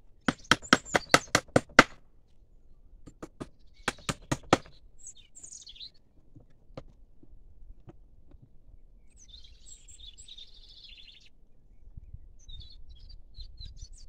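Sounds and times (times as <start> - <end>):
bird chirping: 0.1 - 6.5, 8.7 - 14.0.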